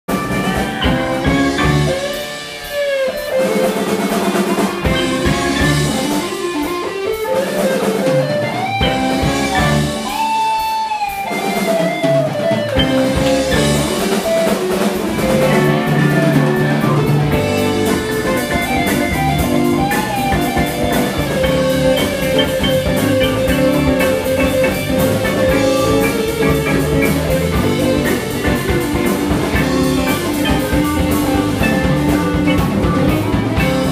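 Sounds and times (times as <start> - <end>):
rock band playing: 0.0 - 33.9
lead guitar bending notes: 0.1 - 33.9.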